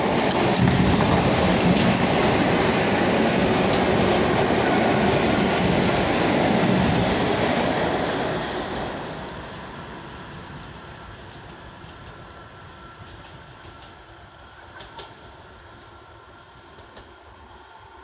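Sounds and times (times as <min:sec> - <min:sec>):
rail joints clattering: 0:00.0 - 0:15.4
train wheels rumbling on rails: 0:00.0 - 0:18.0.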